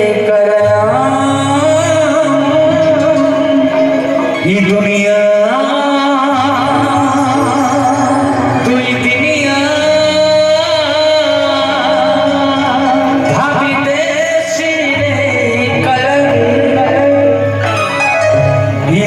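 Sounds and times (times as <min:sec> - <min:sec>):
person singing: 0:00.0 - 0:19.0.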